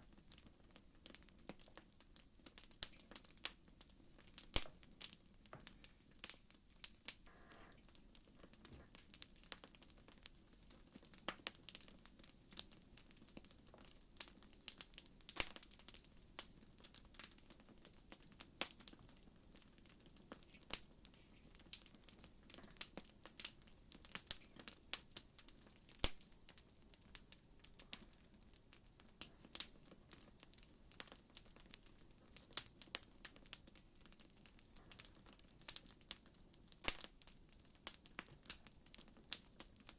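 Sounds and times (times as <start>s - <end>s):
campfire crackling and popping: 0.0s - 39.9s
faint low hiss: 0.0s - 39.9s.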